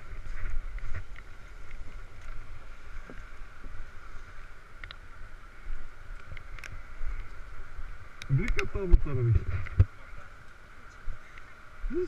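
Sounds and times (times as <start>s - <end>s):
steady rushing noise: 0.0s - 12.0s
wind rumbling on microphone: 0.0s - 12.0s.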